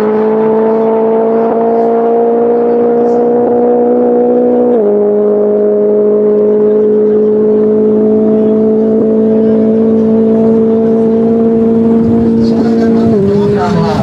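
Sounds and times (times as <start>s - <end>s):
car engine revving at full throttle: 0.0s - 14.0s.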